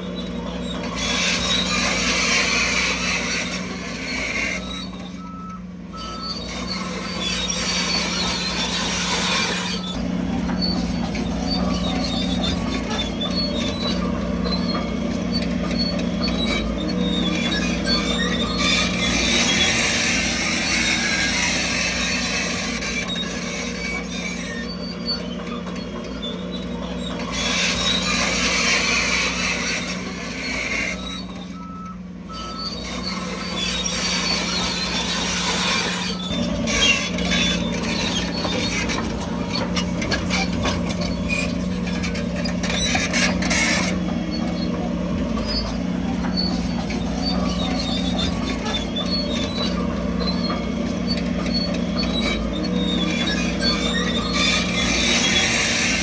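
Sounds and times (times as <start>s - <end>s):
diesel engine drone: 0.0s - 56.0s
high-pitched squeaking: 0.1s - 56.0s.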